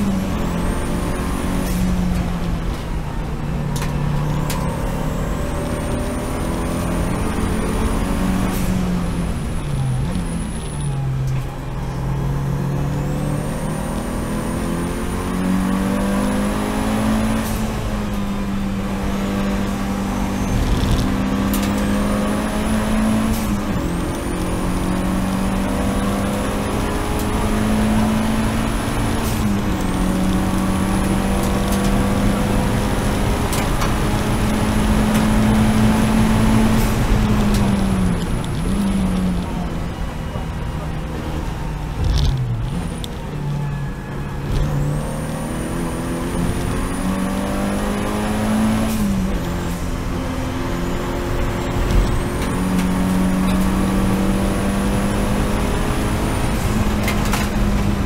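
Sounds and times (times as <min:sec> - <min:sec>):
race car engine under load: 0:00.0 - 0:58.0.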